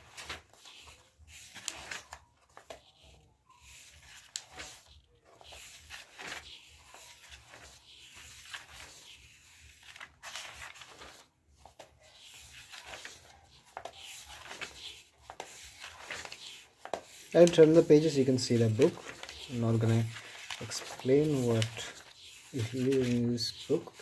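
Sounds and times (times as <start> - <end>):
book pages turning: 0.0 - 24.0.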